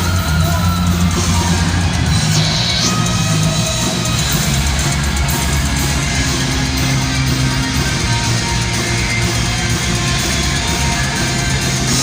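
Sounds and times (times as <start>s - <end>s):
bass guitar: 0.0s - 12.0s
drums: 0.0s - 12.0s
electric guitar: 0.0s - 12.0s.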